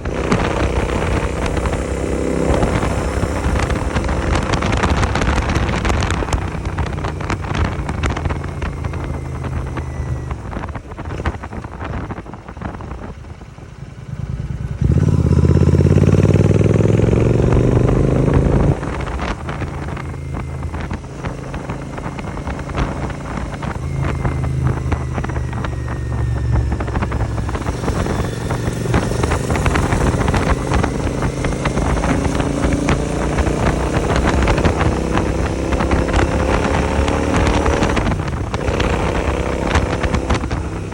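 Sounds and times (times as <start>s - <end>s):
motorcycle engine accelerating: 0.0s - 40.9s
wind on microphone: 0.0s - 40.9s.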